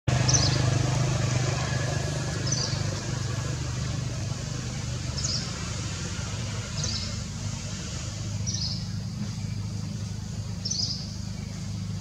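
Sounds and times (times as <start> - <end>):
low engine rumble: 0.1 - 12.0.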